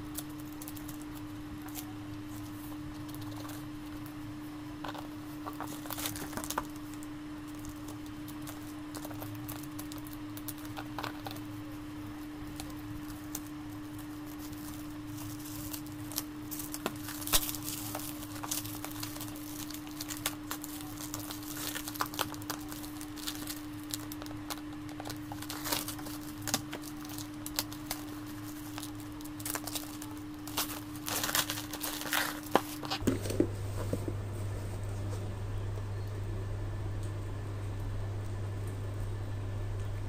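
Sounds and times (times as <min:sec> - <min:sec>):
plastic wrap crinkling and tearing: 0:00.0 - 0:04.2, 0:04.8 - 0:33.9
steady low hum: 0:00.0 - 0:40.0.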